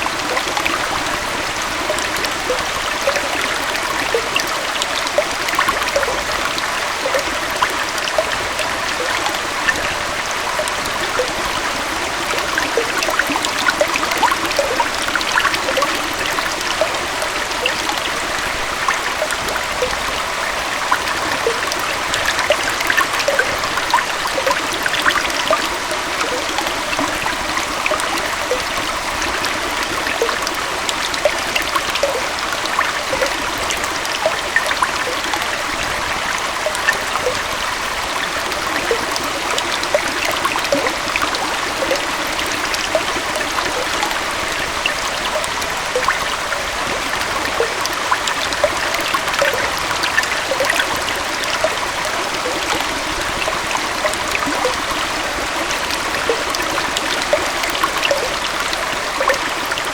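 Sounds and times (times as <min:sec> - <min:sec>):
water trickling splashes: 0:00.0 - 0:59.9.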